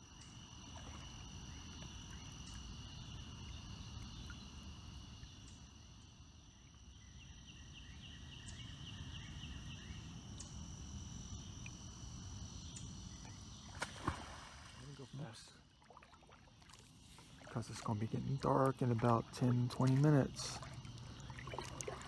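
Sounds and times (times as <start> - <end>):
crickets trilling: 0.0 - 22.0
quick insect chirps: 0.0 - 22.0.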